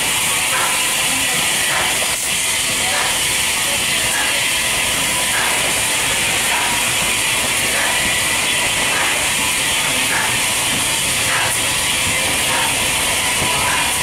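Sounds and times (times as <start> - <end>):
steam hissing: 0.0 - 14.0
steam locomotive beat: 0.0 - 14.0.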